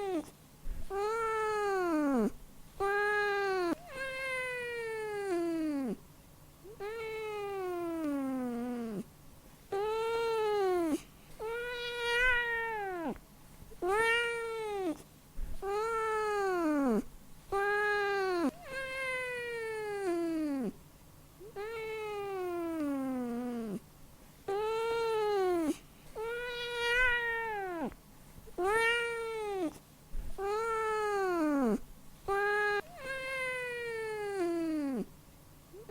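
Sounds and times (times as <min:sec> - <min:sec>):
cat meowing: 0:00.9 - 0:06.0, 0:06.7 - 0:09.0, 0:09.7 - 0:13.2, 0:13.8 - 0:15.0, 0:15.6 - 0:20.7, 0:21.4 - 0:23.8, 0:24.5 - 0:28.0, 0:28.6 - 0:29.8, 0:30.4 - 0:35.1.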